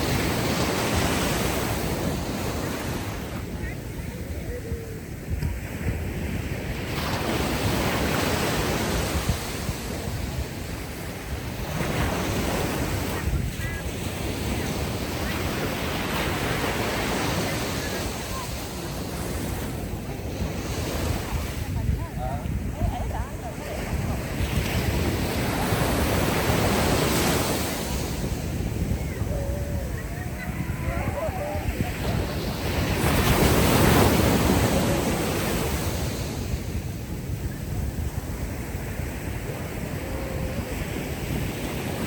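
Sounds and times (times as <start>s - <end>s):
ocean waves washing up a beach: 0.0s - 42.0s
wind rumble on microphone: 0.0s - 42.0s.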